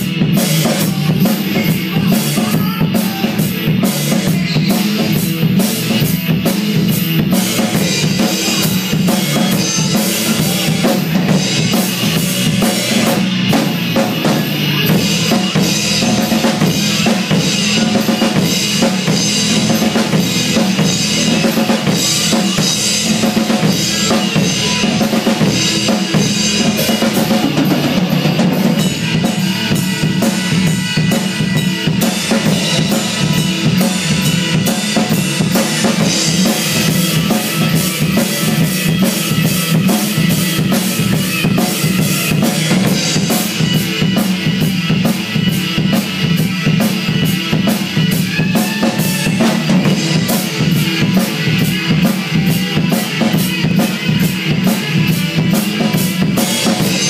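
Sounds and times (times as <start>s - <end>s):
drum kit playing a steady beat: 0.0s - 57.0s
recorded song from loudspeakers: 0.0s - 57.0s.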